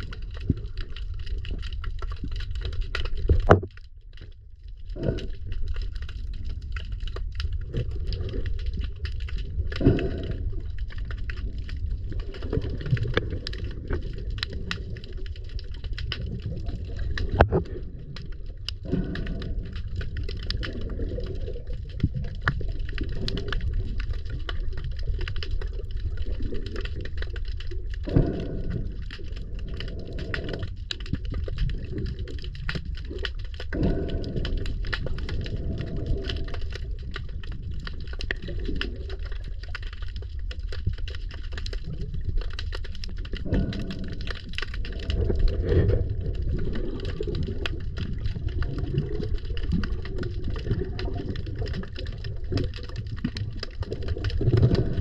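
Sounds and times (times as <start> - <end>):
low rumble: 0.0 - 55.0
muffled water movement: 0.0 - 55.0.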